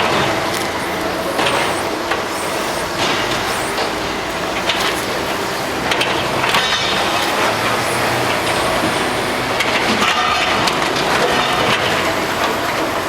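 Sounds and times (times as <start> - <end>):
machinery grinding and scraping: 0.0 - 13.0.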